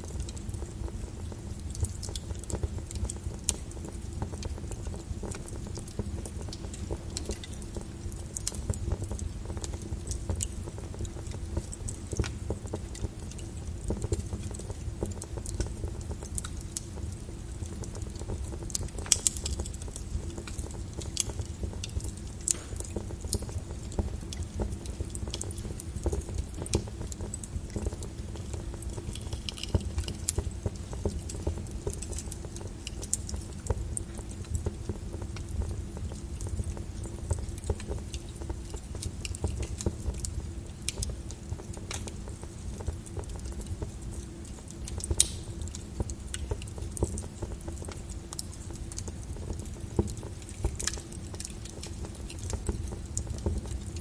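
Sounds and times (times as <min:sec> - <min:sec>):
rain on a window: 0:00.0 - 0:54.0
wood fire crackling: 0:00.0 - 0:54.0.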